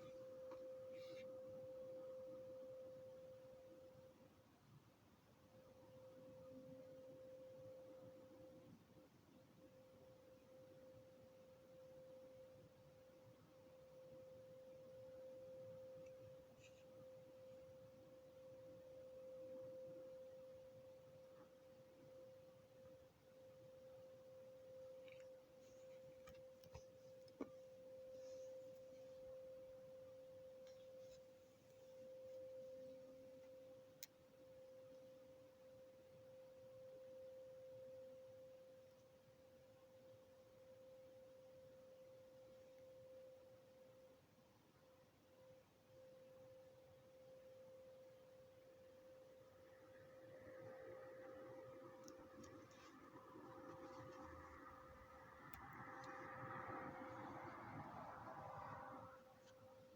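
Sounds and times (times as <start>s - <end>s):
faint steady drone: 0.0s - 59.9s.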